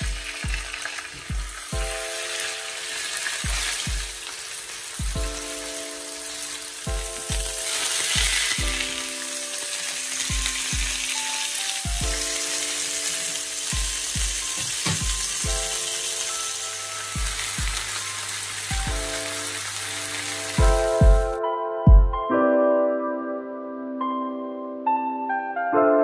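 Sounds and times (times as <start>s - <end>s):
chicken sizzling in a frying pan: 0.0s - 21.4s
background music with a beat: 0.0s - 22.6s.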